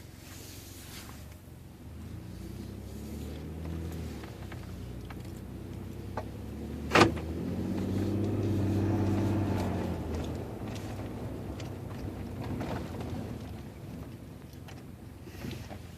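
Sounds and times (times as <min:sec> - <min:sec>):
turbocharged engine running: 0:01.5 - 0:15.9.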